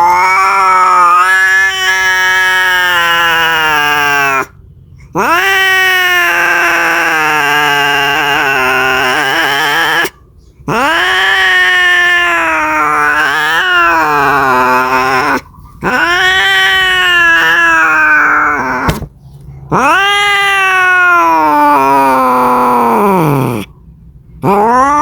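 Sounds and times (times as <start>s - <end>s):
cat yowling: 0.0s - 4.5s, 5.2s - 23.8s, 24.4s - 25.0s.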